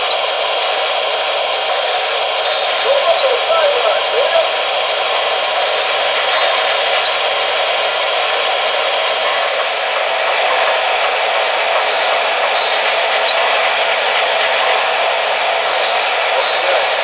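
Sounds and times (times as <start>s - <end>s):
model locomotives hissing: 0.0s - 17.0s.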